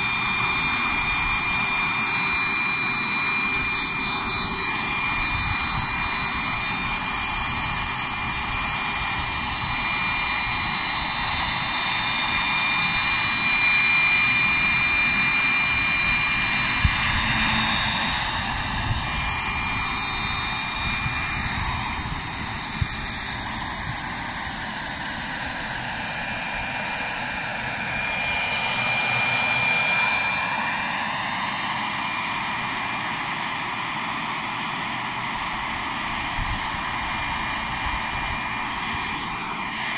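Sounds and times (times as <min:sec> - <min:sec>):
high turbine whine: 0:00.0 - 0:39.9.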